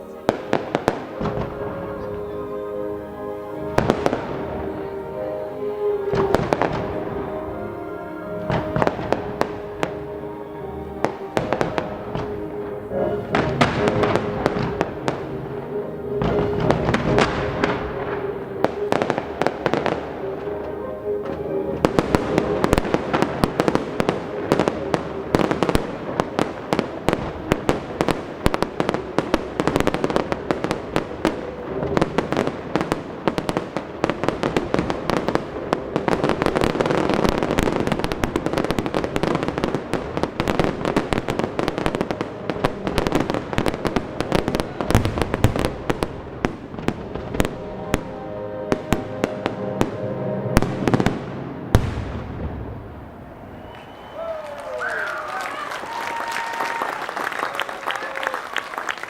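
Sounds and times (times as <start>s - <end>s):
fireworks bangs and crackling: 0.0s - 2.4s, 3.5s - 7.3s, 8.3s - 59.0s
classical orchestral music: 0.0s - 54.0s.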